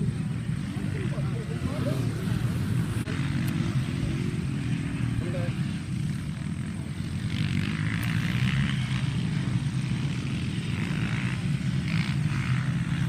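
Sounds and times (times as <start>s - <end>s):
dirt bike engines droning: 0.0s - 13.0s.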